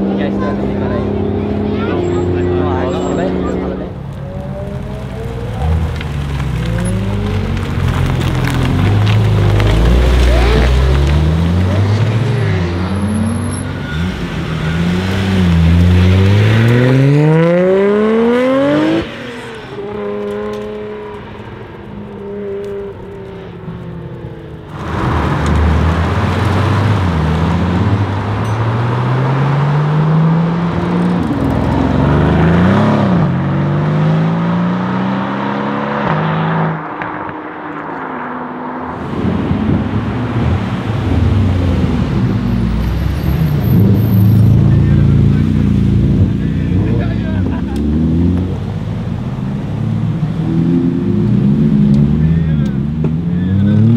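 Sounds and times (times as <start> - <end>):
sports car accelerating hard: 0.0 - 53.9.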